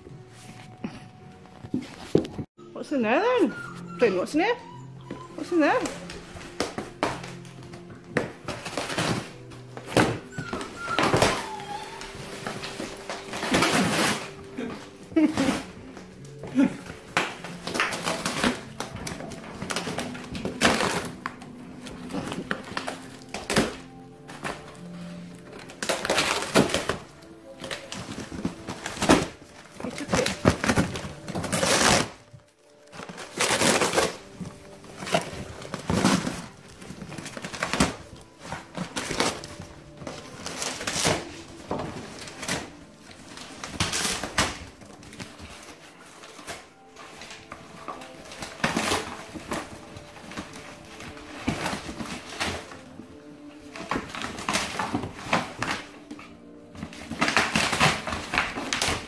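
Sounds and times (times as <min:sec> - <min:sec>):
dogs tearing cardboard box: 0:04.7 - 0:59.0.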